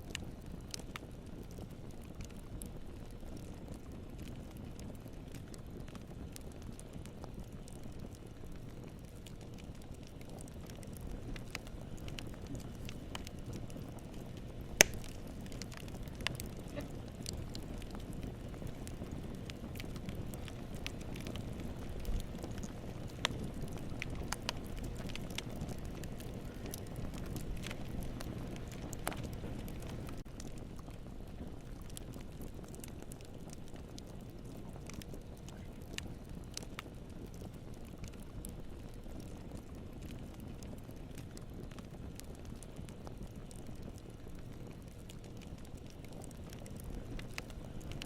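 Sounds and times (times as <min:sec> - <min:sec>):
campfire burning: 0:00.0 - 0:48.0
fire crackles and pops: 0:00.0 - 0:48.0.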